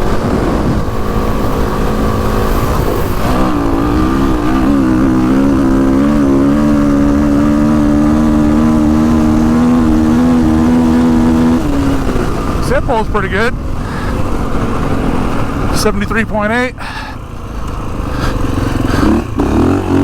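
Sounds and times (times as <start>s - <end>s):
dirt bike engine revving high: 0.0s - 20.0s
wind rush: 0.0s - 20.0s.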